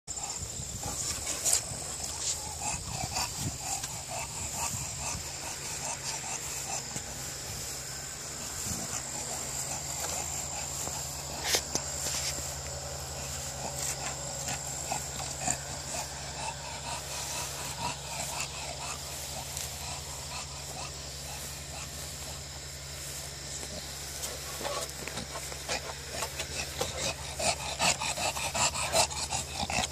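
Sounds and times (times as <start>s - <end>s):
dog panting: 0.0s - 29.9s.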